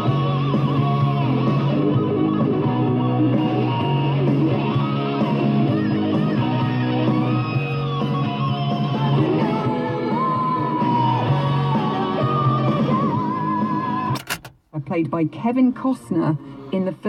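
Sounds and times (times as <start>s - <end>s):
rock music through car speakers: 0.0s - 14.7s.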